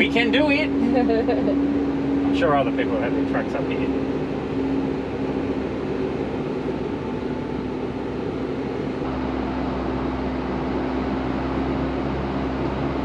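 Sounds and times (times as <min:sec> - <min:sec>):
diesel truck engine droning: 0:00.0 - 0:13.0.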